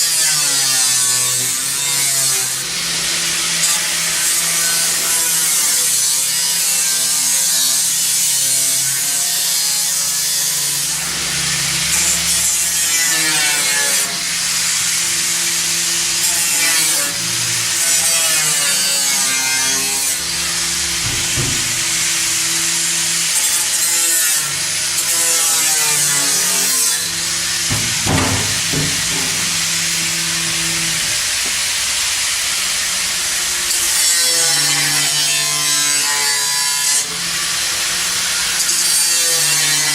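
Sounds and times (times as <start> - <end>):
power saw cutting: 0.0 - 39.9.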